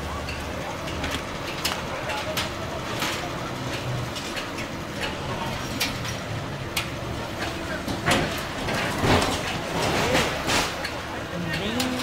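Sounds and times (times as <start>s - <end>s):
crowd voices: 0.0s - 12.0s
diesel excavator engine idling: 0.0s - 12.0s.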